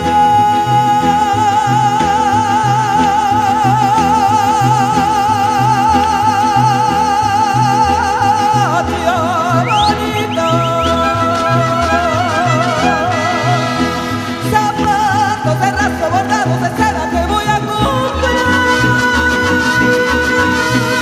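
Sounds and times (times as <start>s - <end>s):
folk music with guitars and violins: 0.0s - 21.0s
person singing long vibrato note: 0.0s - 21.0s.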